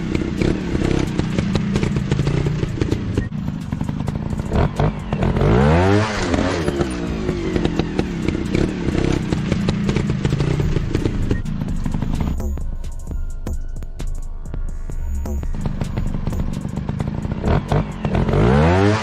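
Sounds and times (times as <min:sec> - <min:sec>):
dirt bike engines revving: 0:00.0 - 0:12.4, 0:15.3 - 0:19.0.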